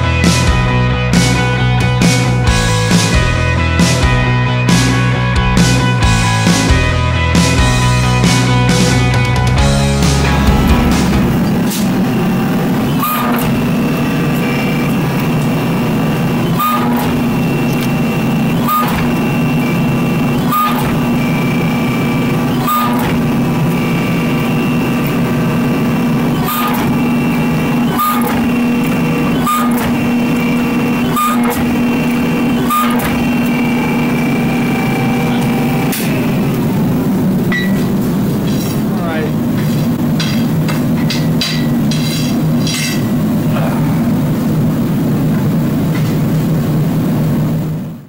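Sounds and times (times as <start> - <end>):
high steady whine: 0.0 - 48.0
hydraulic press pump hum: 0.0 - 48.0.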